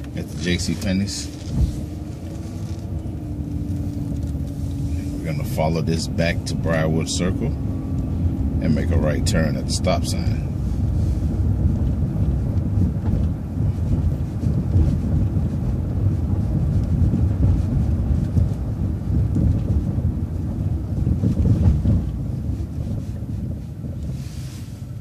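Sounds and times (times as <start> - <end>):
bus engine and road noise: 0.0 - 25.0.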